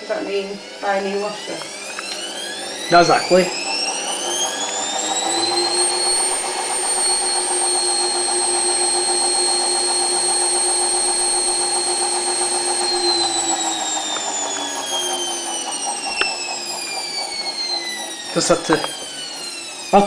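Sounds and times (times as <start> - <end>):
washing machine motor whining: 0.0 - 20.0.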